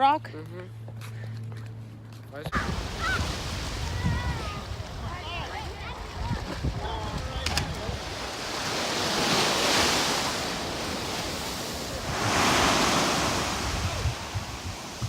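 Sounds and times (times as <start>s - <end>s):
ocean surf washing in: 2.6s - 15.0s.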